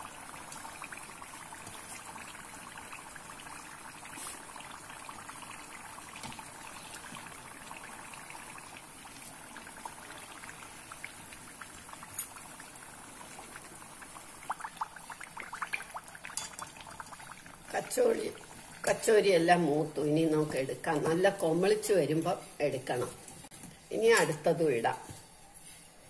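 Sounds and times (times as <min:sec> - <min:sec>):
deep-frying sizzle in oil: 0:00.0 - 0:24.2.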